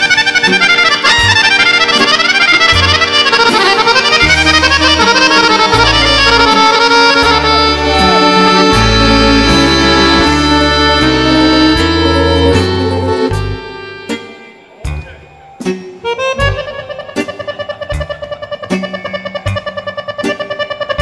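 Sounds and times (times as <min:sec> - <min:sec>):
button accordions playing: 0:00.0 - 0:21.0.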